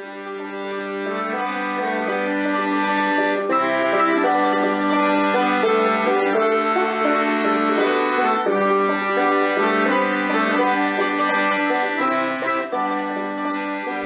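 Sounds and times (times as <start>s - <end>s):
upbeat bluegrass banjo tune: 0.0s - 14.0s.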